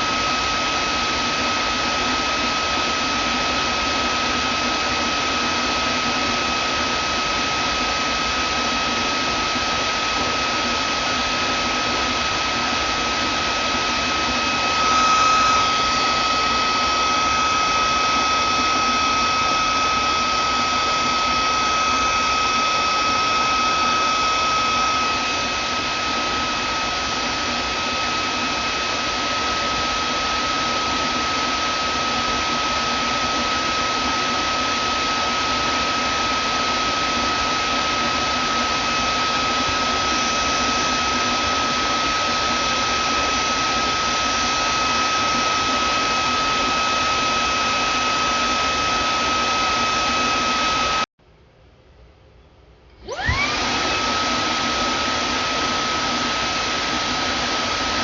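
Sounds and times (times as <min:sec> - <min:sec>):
vacuum cleaner motor whining: 0:00.0 - 0:51.1, 0:53.0 - 0:58.0.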